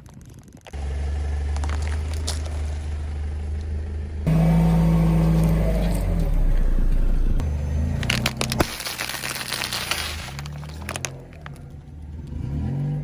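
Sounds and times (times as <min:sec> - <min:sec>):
car engine rumbling: 0:00.6 - 0:13.0.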